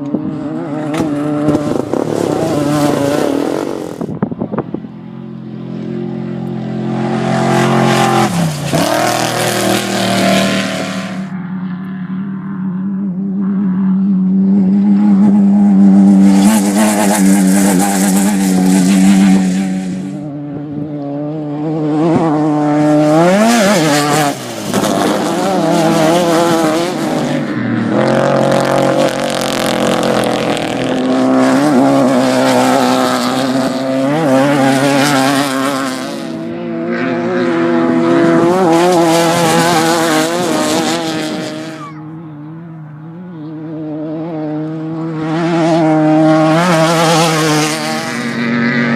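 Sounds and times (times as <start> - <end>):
off-road vehicles passing: 0.0 - 48.9.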